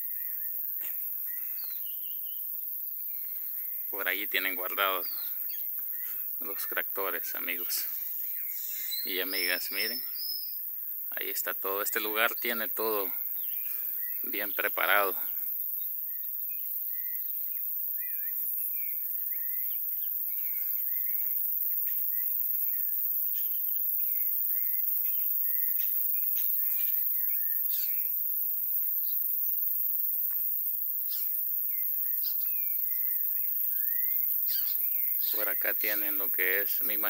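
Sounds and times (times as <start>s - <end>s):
small birds chirping: 0.0s - 29.6s, 31.0s - 37.0s.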